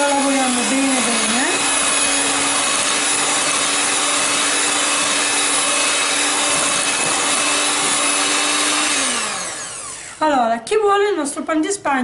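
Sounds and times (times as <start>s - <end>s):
electric hand mixer whirring: 0.0s - 10.5s.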